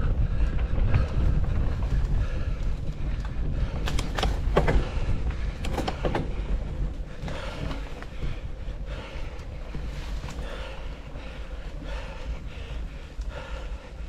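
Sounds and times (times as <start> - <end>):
bike rattling: 0.0 - 14.0
wind rumble on microphone: 0.0 - 14.0.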